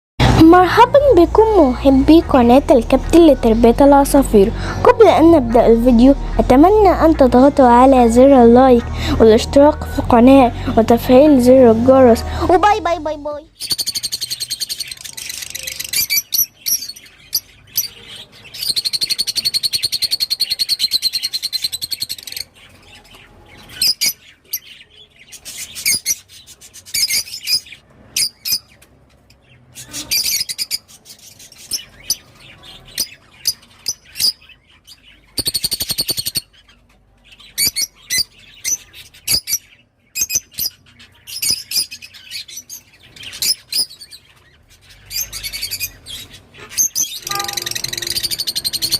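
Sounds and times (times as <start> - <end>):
lovebirds chirping: 0.2 - 48.9.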